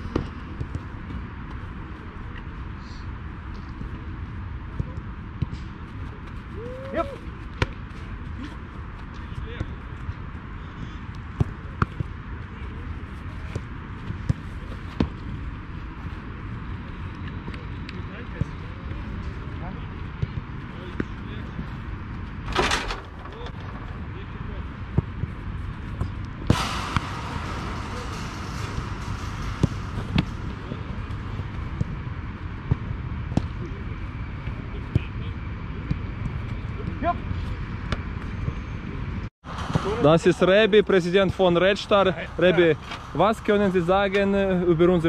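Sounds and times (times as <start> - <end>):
low outdoor rumble: 0.0 - 45.0.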